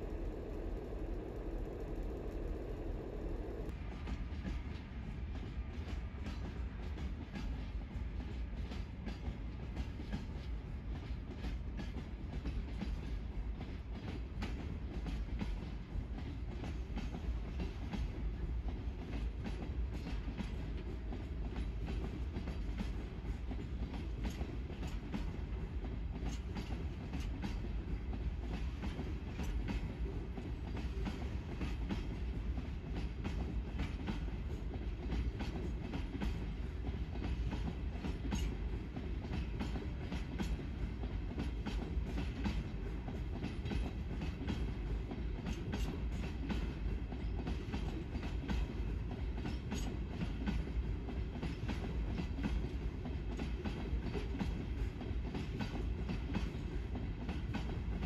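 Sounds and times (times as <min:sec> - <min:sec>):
train clicks and knocks: 0:00.0 - 0:58.0
train wheels rumbling on rails: 0:00.0 - 0:58.0.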